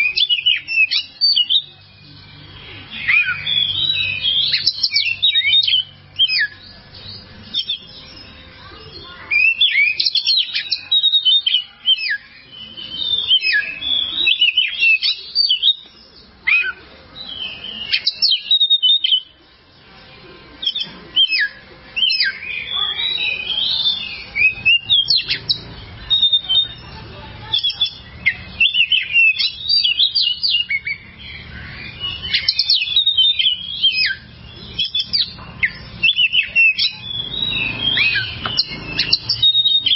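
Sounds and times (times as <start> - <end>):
songbird whistling song: 0.0 - 19.4, 20.6 - 39.9.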